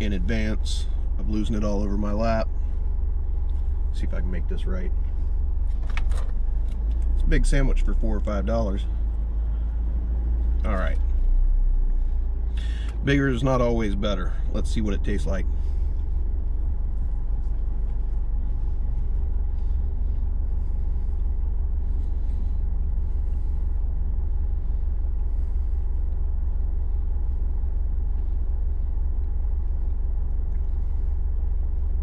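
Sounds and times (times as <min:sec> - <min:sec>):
car idling: 0:00.0 - 0:32.0.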